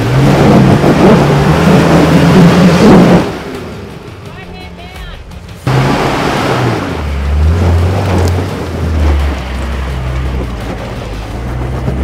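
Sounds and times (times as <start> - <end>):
engine labouring under load: 0.0 - 12.0.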